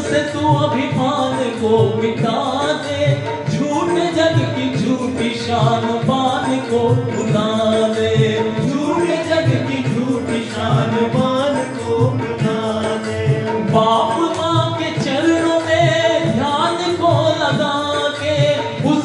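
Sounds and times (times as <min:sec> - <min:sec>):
man and woman singing along: 0:00.0 - 0:19.0
man singing devotional song: 0:00.0 - 0:19.0.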